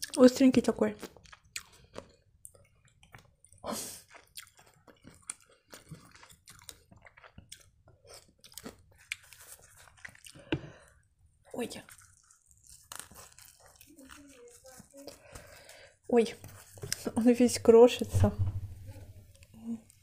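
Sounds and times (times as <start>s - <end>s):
wet chewing: 0.9s - 17.3s.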